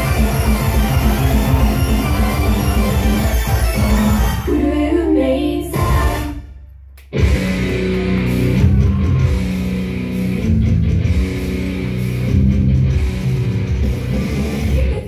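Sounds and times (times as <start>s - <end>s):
heavy rock music: 0.0s - 4.5s, 7.1s - 15.0s.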